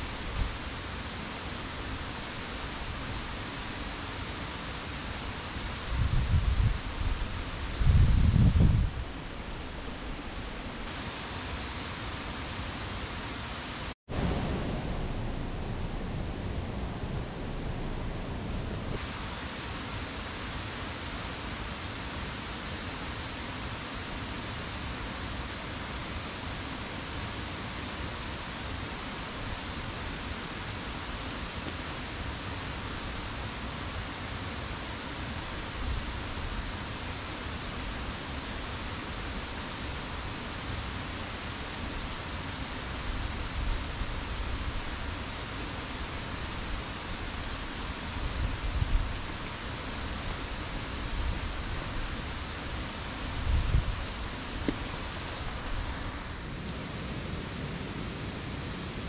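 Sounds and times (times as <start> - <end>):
rushing outdoor background noise: 0.0 - 59.0.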